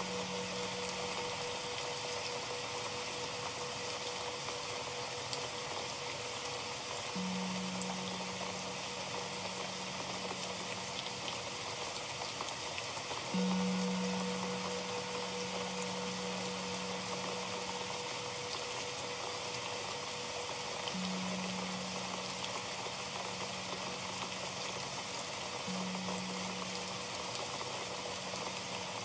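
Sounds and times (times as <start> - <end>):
singing bowl ringing: 0.0 - 11.9, 13.2 - 29.0
steady rain: 0.0 - 29.0.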